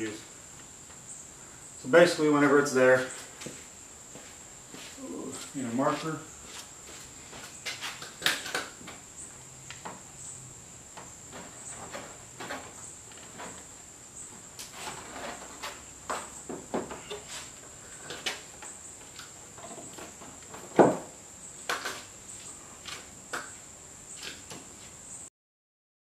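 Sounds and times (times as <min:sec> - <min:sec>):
high-pitched insect trill: 0:01.0 - 0:25.3.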